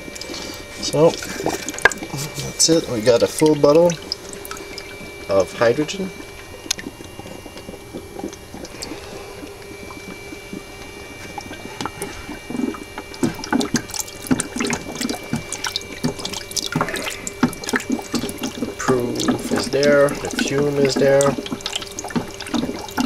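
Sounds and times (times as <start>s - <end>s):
faint steady hum: 0.0s - 23.0s
gas bubbling underwater: 0.0s - 23.0s
water splashing and dripping: 0.0s - 23.0s.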